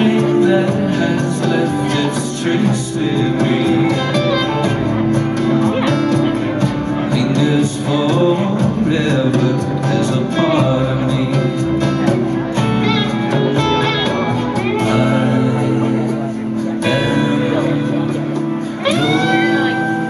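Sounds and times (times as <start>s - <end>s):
acoustic guitar: 0.0s - 20.0s
electric guitar: 0.0s - 20.0s
person singing: 0.0s - 20.0s.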